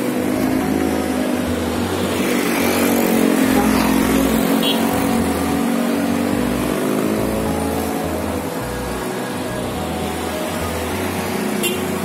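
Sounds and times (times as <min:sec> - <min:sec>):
motorcycles and scooters riding past: 0:00.0 - 0:12.0.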